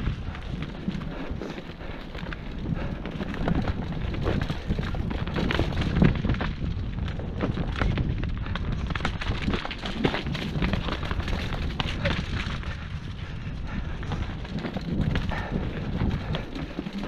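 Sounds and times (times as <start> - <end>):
bike knocks and rattles: 0.0 - 17.0
bike tyres rumbling over dirt: 0.0 - 17.0
wind buffeting microphone: 0.0 - 17.0.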